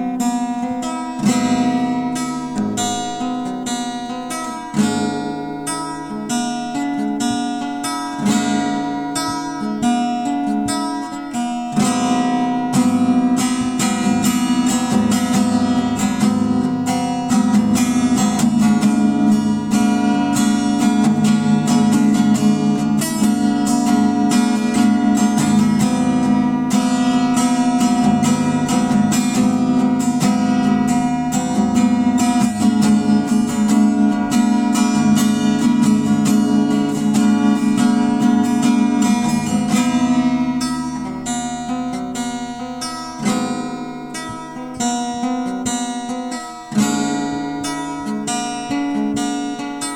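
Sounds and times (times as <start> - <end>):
strummed acoustic guitar: 0.0 - 49.9.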